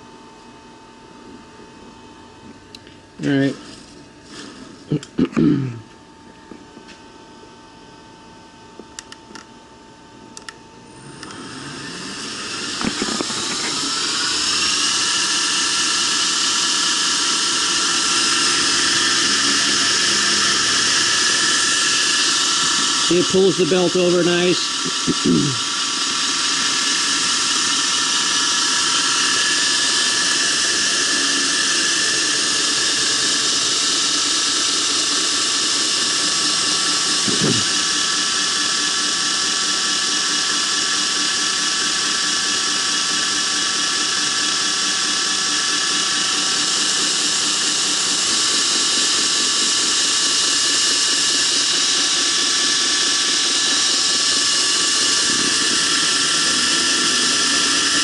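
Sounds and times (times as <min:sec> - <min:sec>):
belt grinder whirring with high whine: 0:00.0 - 0:05.5, 0:10.3 - 0:58.0.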